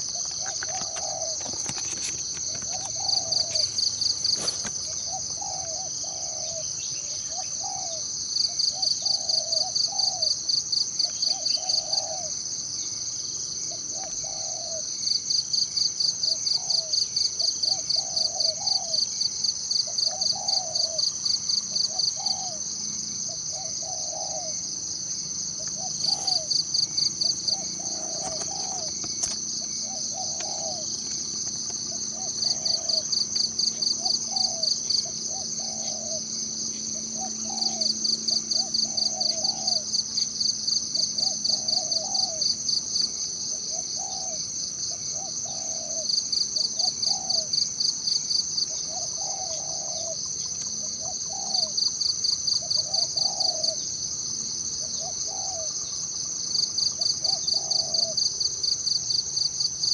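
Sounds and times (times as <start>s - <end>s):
high-pitched insect drone: 0.0s - 59.9s
pulsed insect chirping: 0.0s - 59.9s.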